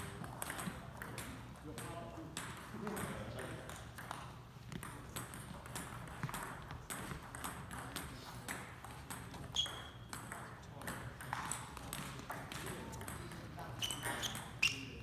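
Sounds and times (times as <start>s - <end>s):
table tennis balls clicking: 0.0s - 15.0s.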